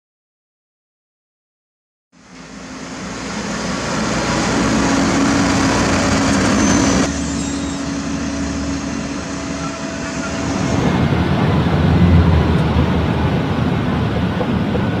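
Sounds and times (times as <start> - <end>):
diesel truck engine running: 2.2 - 15.0.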